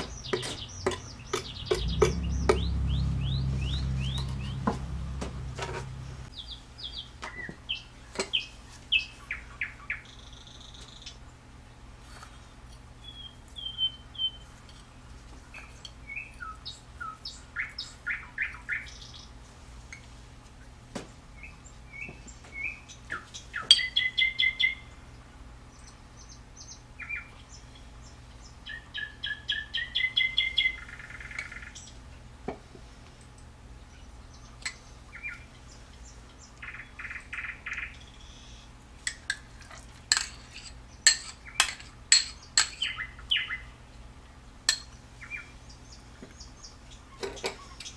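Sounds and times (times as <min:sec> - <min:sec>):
small birds chirping: 0:00.0 - 0:05.1, 0:05.8 - 0:11.5, 0:12.3 - 0:19.6, 0:21.1 - 0:32.2, 0:33.7 - 0:39.2, 0:40.1 - 0:47.9.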